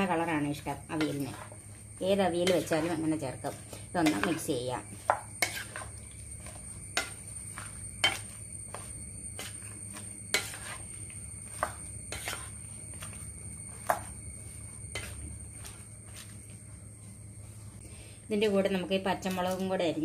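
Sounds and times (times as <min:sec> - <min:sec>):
wooden spatula stirring in pan: 0:00.8 - 0:17.8.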